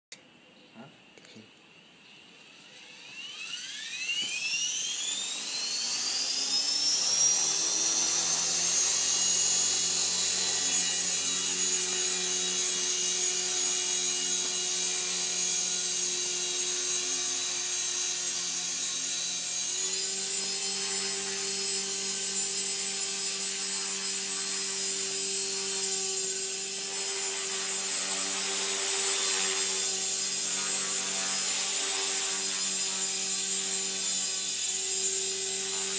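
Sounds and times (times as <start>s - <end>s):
electric helicopter motor whine: 2.3s - 35.9s.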